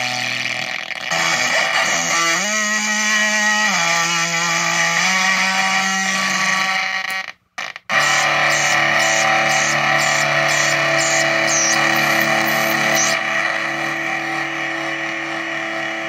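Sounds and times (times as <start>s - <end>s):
fuzz electric guitar: 0.0s - 16.0s.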